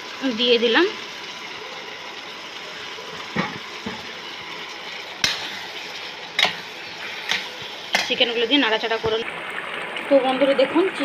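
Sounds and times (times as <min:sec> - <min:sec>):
steady hiss of simmering: 0:00.0 - 0:11.0.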